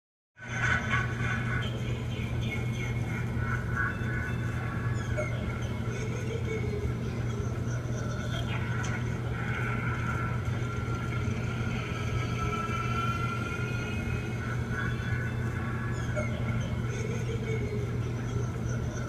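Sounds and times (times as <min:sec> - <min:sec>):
low hum and hiss: 0:00.4 - 0:19.0.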